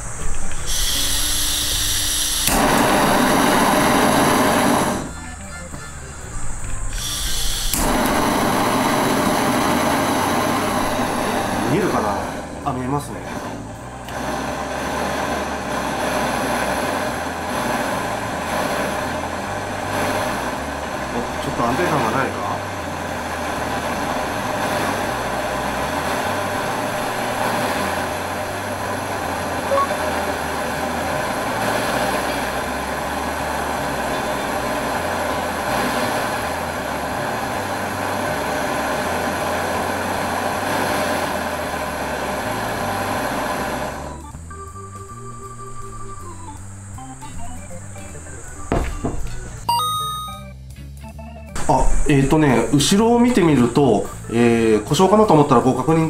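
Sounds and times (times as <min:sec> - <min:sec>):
gas torch flame hissing: 0:00.0 - 0:49.7, 0:51.6 - 0:56.0.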